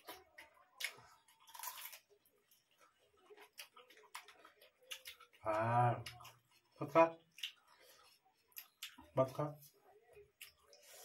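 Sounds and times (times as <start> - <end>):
chewing and mouth clicks: 0.0 - 9.2, 10.1 - 11.0.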